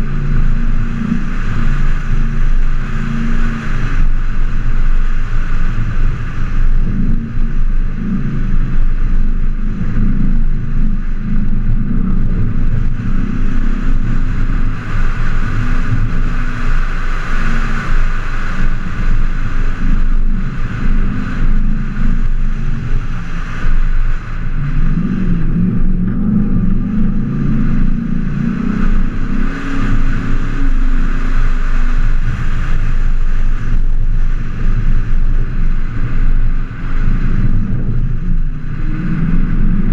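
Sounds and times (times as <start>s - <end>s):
engine running under load: 0.0s - 39.9s
wind noise on microphone: 0.0s - 39.9s.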